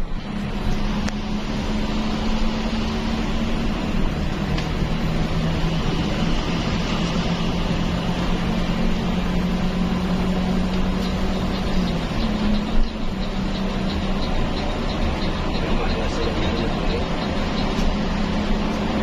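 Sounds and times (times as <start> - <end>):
bus engine drone: 0.0 - 19.0
tyre road noise: 0.0 - 19.0.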